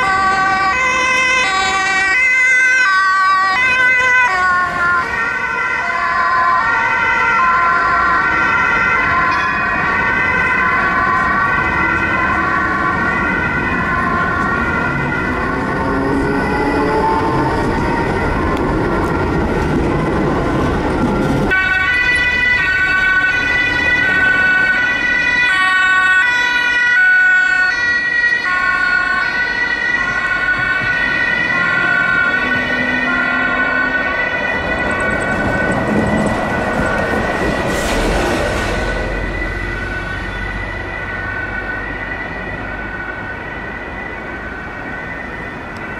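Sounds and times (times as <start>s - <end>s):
passing street traffic: 0.0s - 45.9s
two-tone sirens: 0.0s - 45.9s.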